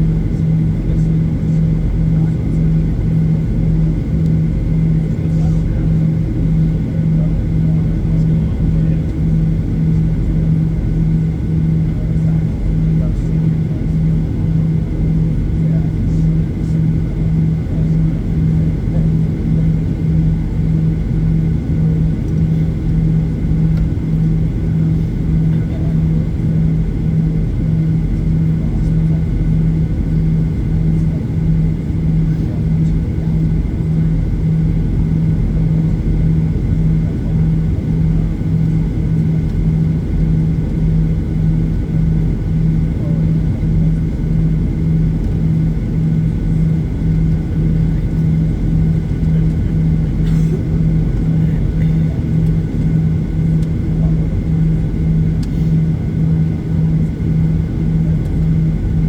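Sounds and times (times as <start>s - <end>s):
jet engines idling in cabin: 0.0s - 59.0s.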